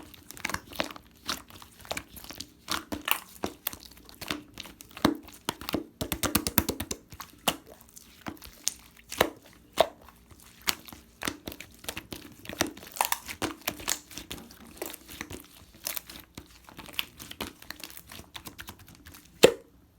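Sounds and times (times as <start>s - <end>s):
slime crackling and popping: 0.0s - 19.6s.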